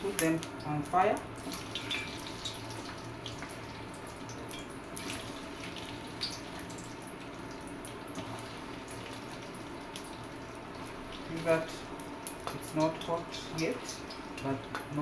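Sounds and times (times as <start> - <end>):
oil bubbling hiss: 0.0 - 15.0.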